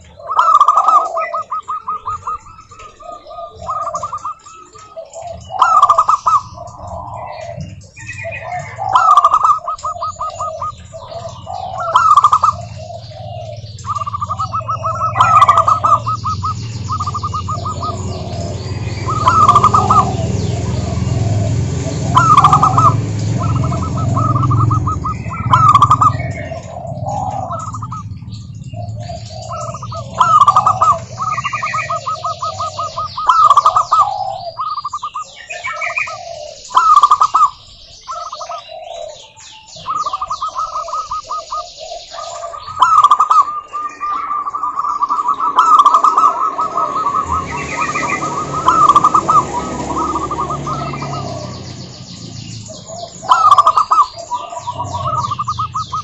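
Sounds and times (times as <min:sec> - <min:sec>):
doves cooing trills: 0:00.0 - 0:56.0.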